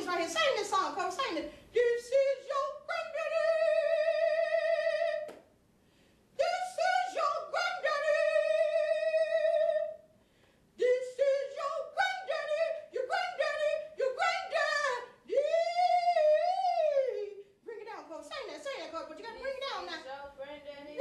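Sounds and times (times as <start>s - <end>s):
person singing unaccompanied: 0.0s - 5.4s, 6.4s - 10.0s, 10.8s - 20.1s.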